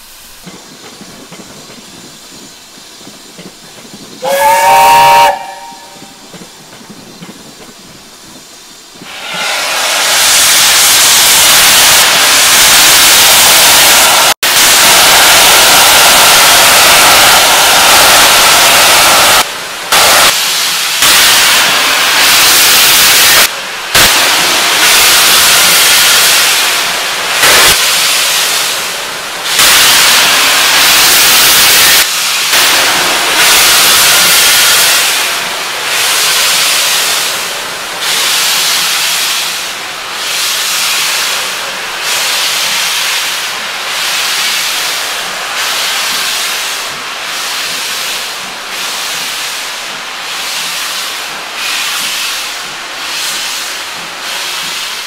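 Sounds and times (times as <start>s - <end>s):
steam locomotive hissing steam: 0.0s - 55.0s.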